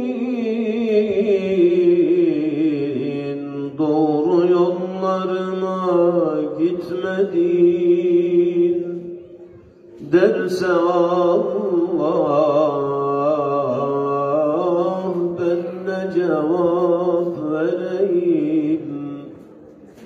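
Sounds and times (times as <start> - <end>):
man singing unaccompanied: 0.0 - 9.1, 10.0 - 19.4.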